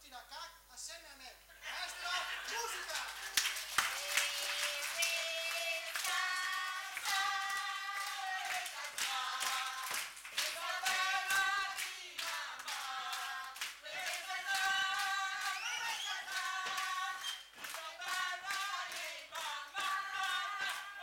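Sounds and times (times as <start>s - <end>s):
voices singing together: 1.6s - 21.0s
hands clapping in rhythm: 1.7s - 21.0s.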